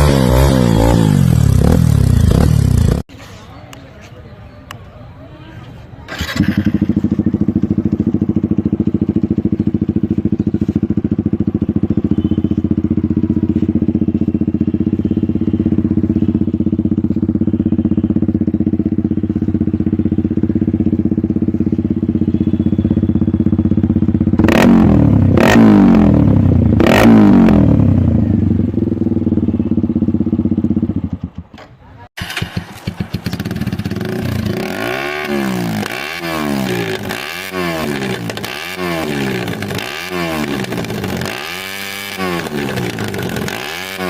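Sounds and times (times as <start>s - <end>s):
motorcycle throttle blips: 0.0s - 3.0s, 6.1s - 44.0s
motorcycle engine idling: 6.1s - 44.0s.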